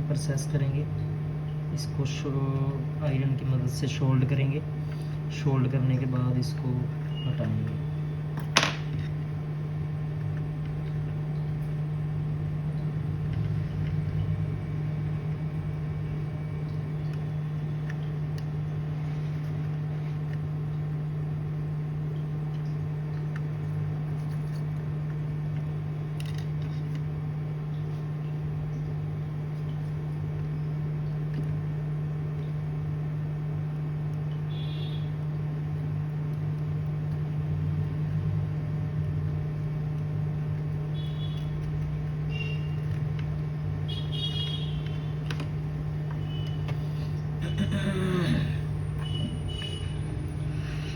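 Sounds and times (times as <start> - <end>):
low electrical hum: 0.0 - 50.9.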